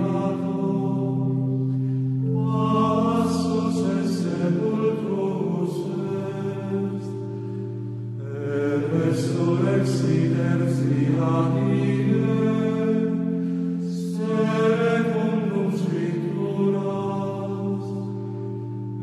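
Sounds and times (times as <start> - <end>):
droning chords: 0.0 - 19.0
person chanting long notes: 0.0 - 19.0.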